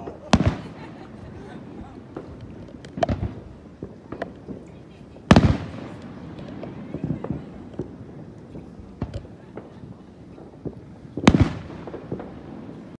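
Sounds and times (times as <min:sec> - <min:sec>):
firework shells booming: 0:00.0 - 0:13.0
small firework pops: 0:00.0 - 0:13.0.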